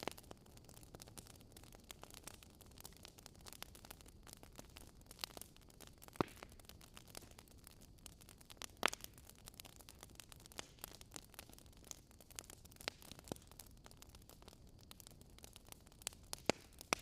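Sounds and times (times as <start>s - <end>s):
loud fire pops: 0.0s - 17.0s
wood fire crackling softly: 0.0s - 17.0s.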